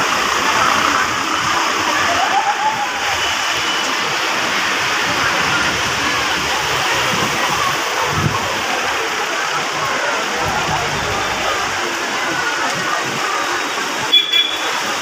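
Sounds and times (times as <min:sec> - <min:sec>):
crowd hubbub: 0:00.0 - 0:15.0.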